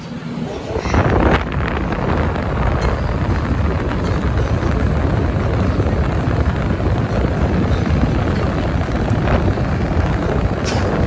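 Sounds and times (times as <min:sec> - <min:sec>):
air conditioner fan blowing: 0:00.0 - 0:11.0
wind rumble on microphone: 0:00.5 - 0:11.0.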